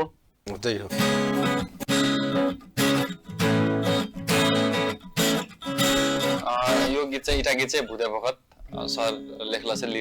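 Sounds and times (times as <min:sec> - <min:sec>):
acoustic guitar strumming: 0:00.9 - 0:07.9, 0:08.7 - 0:10.0.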